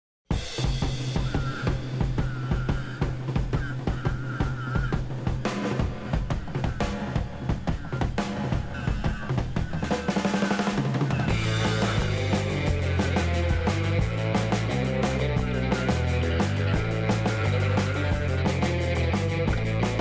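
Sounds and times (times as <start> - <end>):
drum-driven background music: 0.3 - 20.0.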